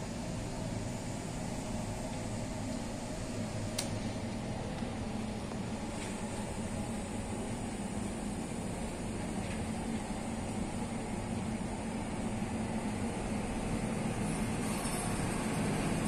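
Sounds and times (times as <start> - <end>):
machinery hum and hiss: 0.0 - 16.0.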